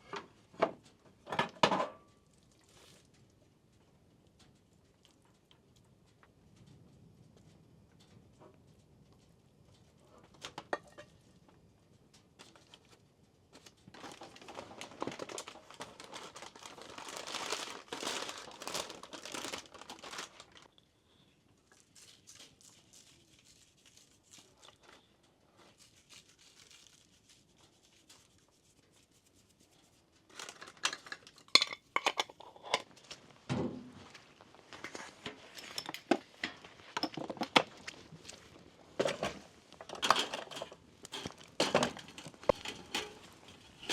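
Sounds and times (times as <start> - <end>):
crinkling and rustling: 0.0 - 20.8, 21.5 - 43.9.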